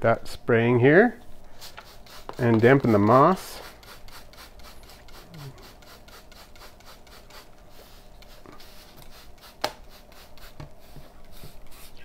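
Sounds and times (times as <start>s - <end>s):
spray bottle hissing: 1.5s - 12.0s.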